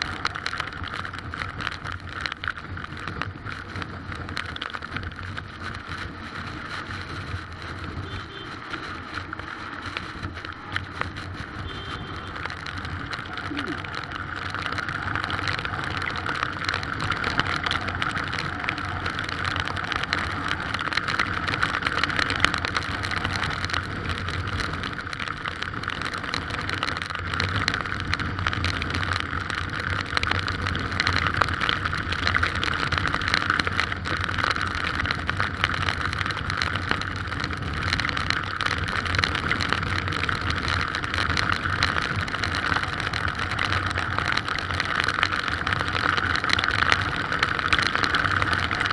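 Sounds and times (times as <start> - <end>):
heavy rain: 0.0 - 48.9
strong wind: 0.0 - 48.9.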